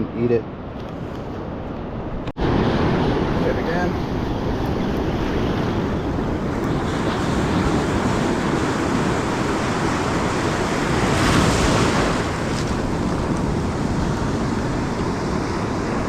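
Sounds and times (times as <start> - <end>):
wind rumbling on microphone: 0.0 - 16.0
ocean surf breaking: 2.0 - 16.0.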